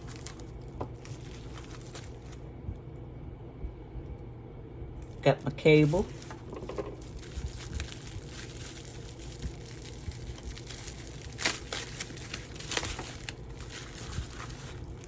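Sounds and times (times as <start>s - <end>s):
plastic packaging crinkling: 0.0s - 2.4s, 5.0s - 15.0s.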